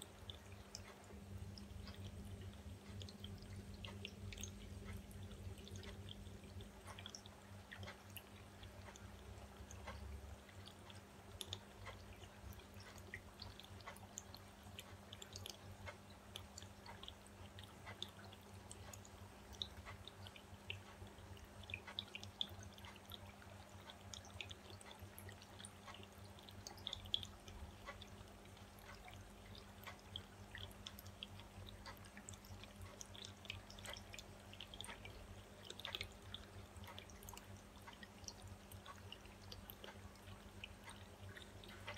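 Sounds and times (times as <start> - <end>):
paint pouring clicks and ticks: 0.0 - 41.9
steady low hum: 0.0 - 41.9.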